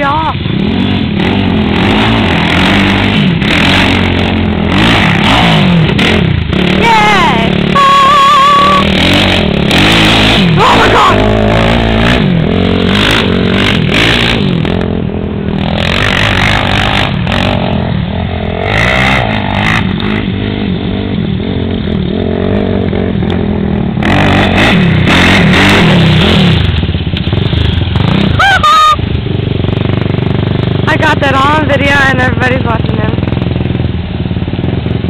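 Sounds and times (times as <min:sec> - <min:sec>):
quad engine revving: 0:00.0 - 0:35.0.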